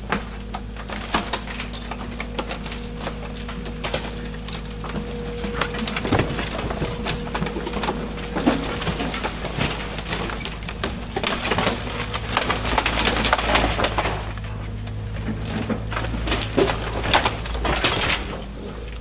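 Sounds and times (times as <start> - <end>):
excavator engine hum: 0.0 - 19.0
wooden frame cracking and splintering: 0.0 - 19.0.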